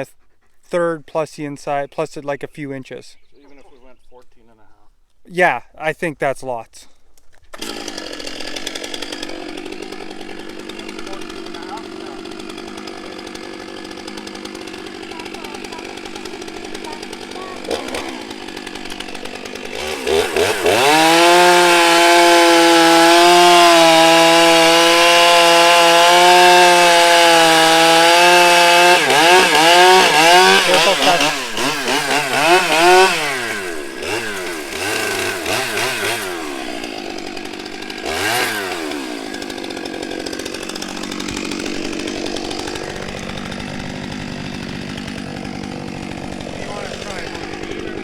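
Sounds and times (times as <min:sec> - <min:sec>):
chainsaw revving and cutting log: 0:07.4 - 0:48.0.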